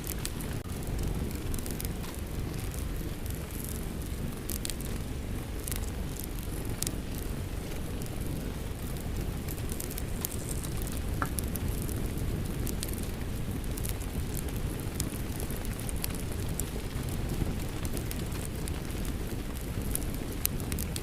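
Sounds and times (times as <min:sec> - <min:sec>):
fireplace crackling: 0:00.0 - 0:21.0
rain: 0:00.0 - 0:21.0.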